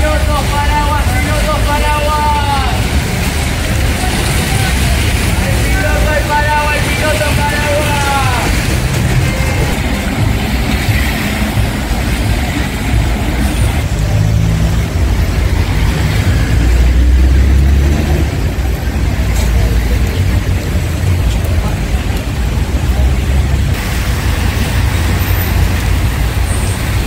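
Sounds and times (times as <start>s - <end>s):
low traffic rumble: 0.0s - 27.0s
traffic engines running: 0.0s - 27.0s
tyres passing on wet road: 0.0s - 27.0s.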